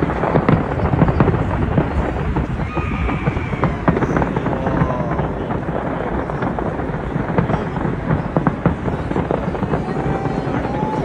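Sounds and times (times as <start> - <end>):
fireworks bangs and cracks: 0.0 - 11.0
low rumble of shells bursting: 0.0 - 11.0.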